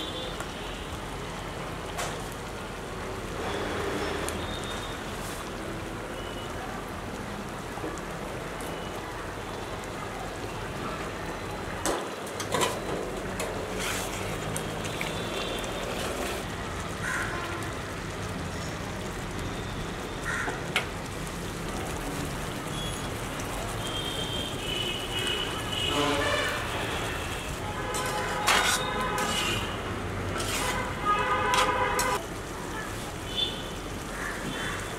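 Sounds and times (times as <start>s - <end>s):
curry bubbling and hissing: 0.1s - 34.9s.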